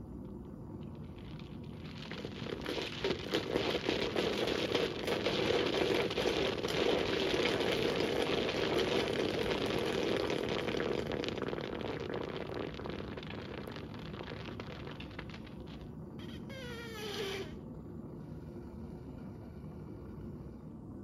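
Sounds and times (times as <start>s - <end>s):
water crackling and spattering: 0.0s - 17.6s.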